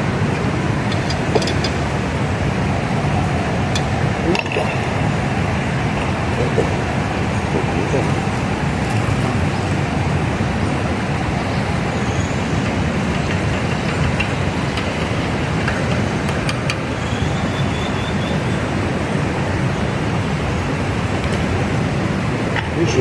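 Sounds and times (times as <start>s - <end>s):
river rapids rushing: 0.0s - 23.0s.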